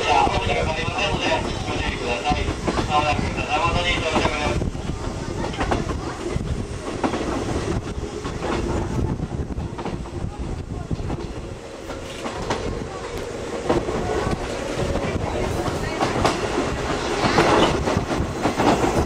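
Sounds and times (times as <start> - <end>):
train coach rumble: 0.0 - 19.0.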